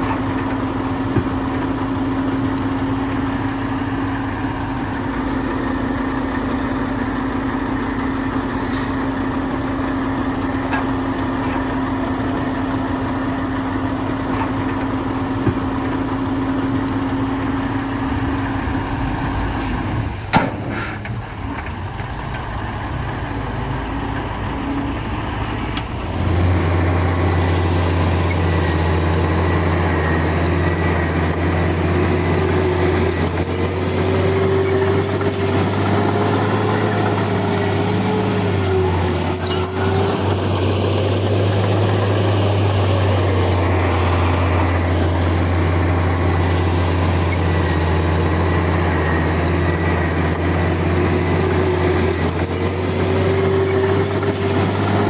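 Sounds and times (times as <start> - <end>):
deep engine drone: 0.0 - 55.0
heavy diesel engines running: 0.0 - 55.0.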